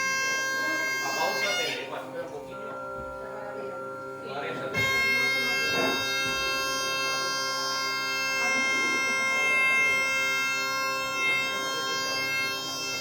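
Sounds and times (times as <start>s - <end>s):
bagpipe held note over drone: 0.0s - 13.0s.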